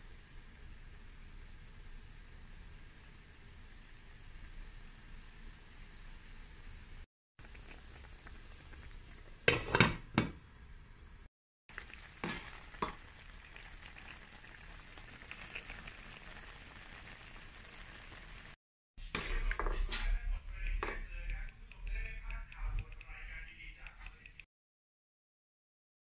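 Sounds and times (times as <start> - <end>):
soup simmering hiss: 0.0 - 24.5.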